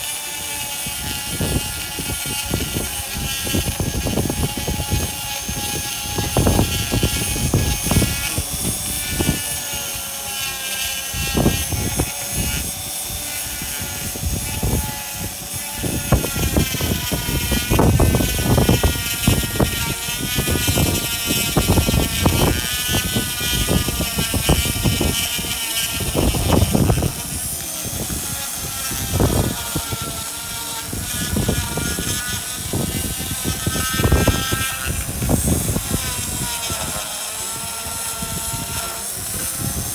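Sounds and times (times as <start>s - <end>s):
burr grating on stone: 0.0s - 39.9s
die grinder whining: 0.0s - 39.9s.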